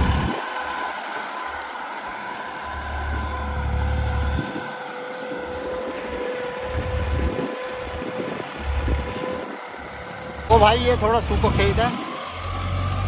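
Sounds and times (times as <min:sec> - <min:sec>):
steady whine: 0:00.0 - 0:13.0
tractor diesel engine under load: 0:00.0 - 0:13.0.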